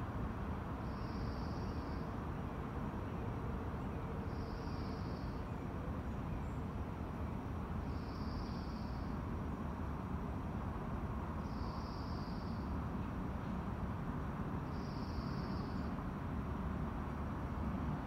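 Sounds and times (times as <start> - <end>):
distant traffic rumble: 0.1 - 18.0.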